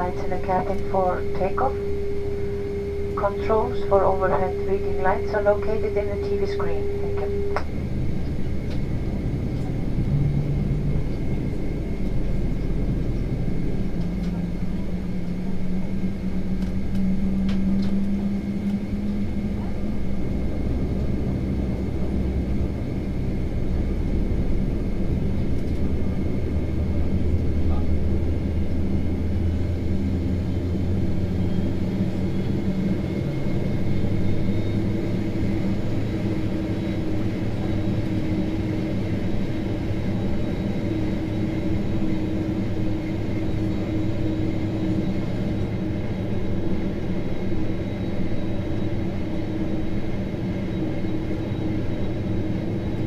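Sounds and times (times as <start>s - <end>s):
aircraft cabin engine rumble: 0.0s - 53.0s
faint high whine: 0.0s - 53.0s.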